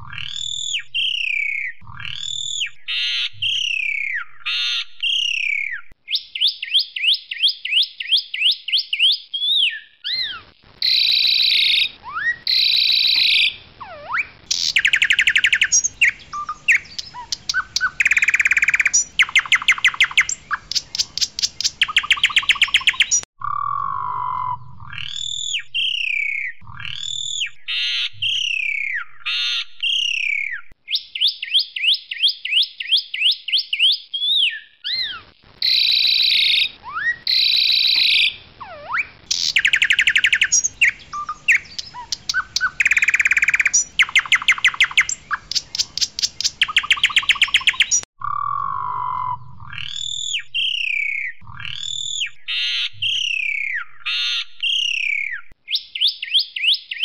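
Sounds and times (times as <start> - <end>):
starling singing: 8.4 - 31.3, 33.8 - 57.0.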